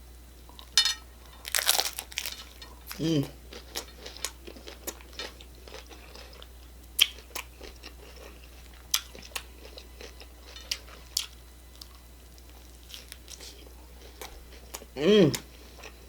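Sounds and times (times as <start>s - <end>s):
crunchy taco chewing: 0.5s - 16.0s.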